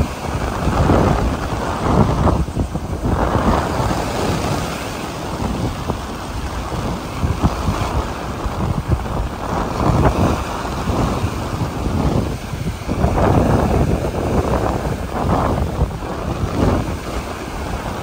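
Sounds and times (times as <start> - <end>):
ocean surf: 0.0 - 18.0
wind on microphone: 0.0 - 18.0.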